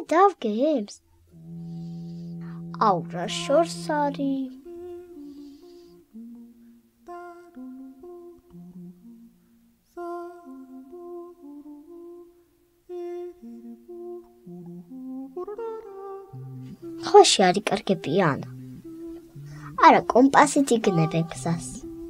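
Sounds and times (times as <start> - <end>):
person humming a slow tune: 1.2 - 22.0.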